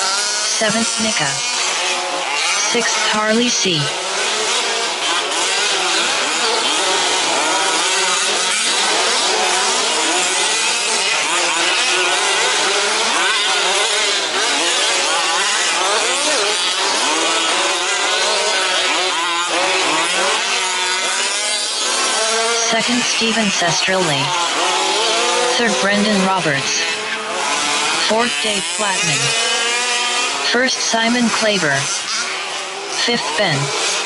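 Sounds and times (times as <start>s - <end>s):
rc truck engines revving: 0.0s - 34.0s.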